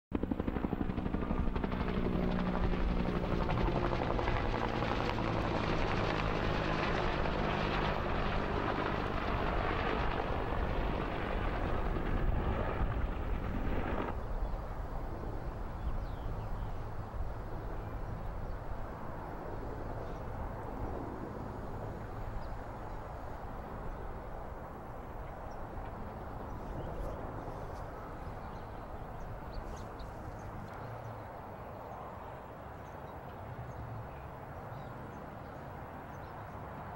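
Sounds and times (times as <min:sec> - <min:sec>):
helicopter rotor beat: 0:00.1 - 0:31.0
helicopter turbine engine: 0:00.1 - 0:36.9.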